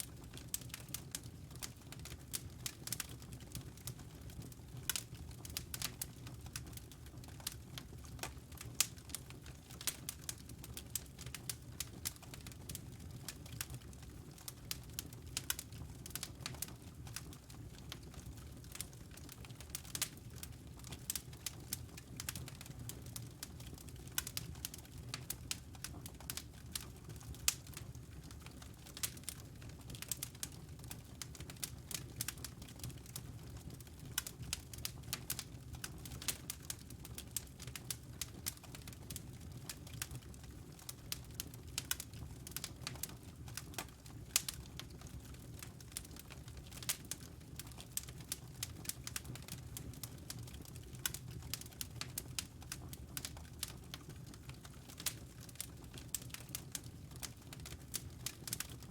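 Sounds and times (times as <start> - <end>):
logs crackling and popping: 0.1 - 58.9.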